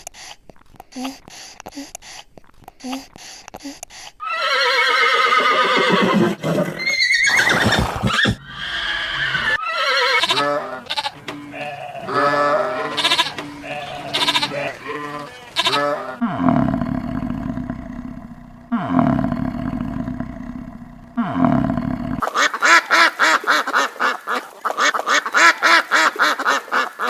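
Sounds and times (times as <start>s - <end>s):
farm animal calls: 4.2s - 27.0s.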